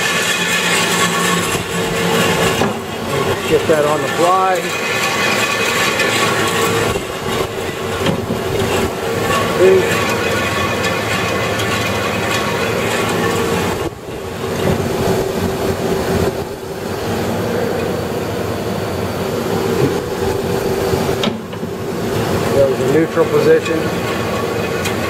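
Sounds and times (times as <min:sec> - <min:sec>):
band saw humming with clatter: 0:00.0 - 0:25.0.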